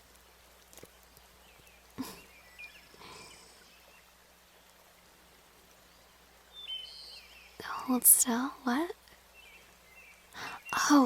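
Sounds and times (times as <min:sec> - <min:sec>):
faint nature ambience: 0:00.0 - 0:11.0.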